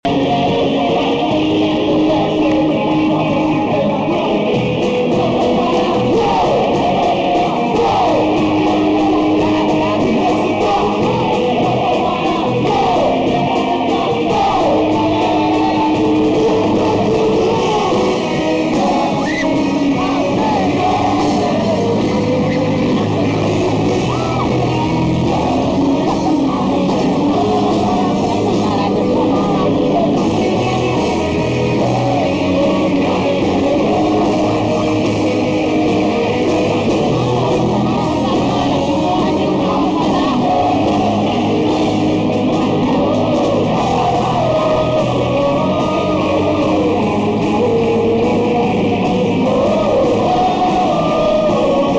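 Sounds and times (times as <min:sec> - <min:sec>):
electric guitars: 0:00.0 - 0:51.9
lead singer singing: 0:00.0 - 0:51.9
rock band playing: 0:00.0 - 0:51.9.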